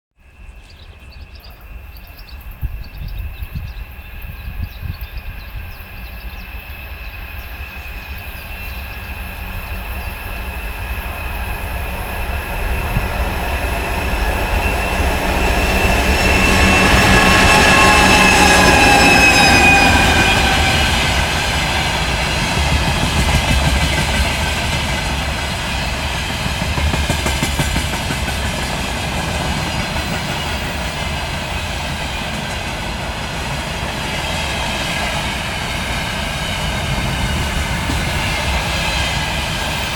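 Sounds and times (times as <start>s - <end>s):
diesel locomotive passing: 0.2s - 39.9s.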